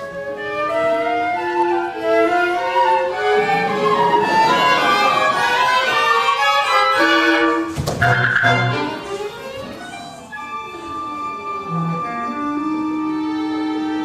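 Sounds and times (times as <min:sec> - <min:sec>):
violin melody over strings: 0:00.0 - 0:14.0.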